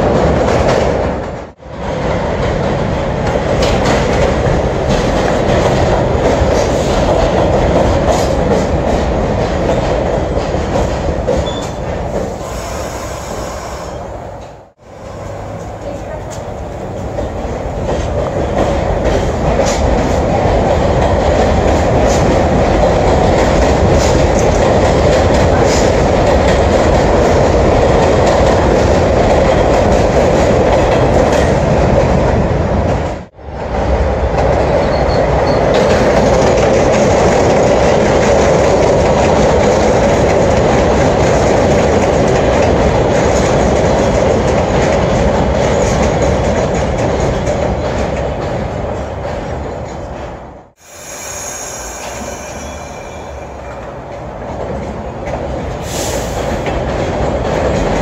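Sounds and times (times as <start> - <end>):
clickety-clack of rail joints: 0.0 - 50.8, 51.6 - 58.0
train wheel and rail noise: 0.0 - 58.0.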